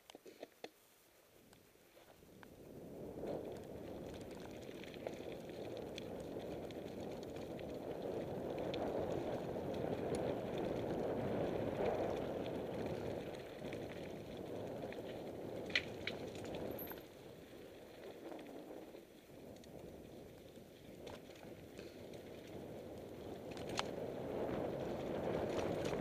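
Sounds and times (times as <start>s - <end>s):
bike tyres rolling on gravel: 1.5s - 26.0s
bike clicks and rattles: 3.2s - 26.0s.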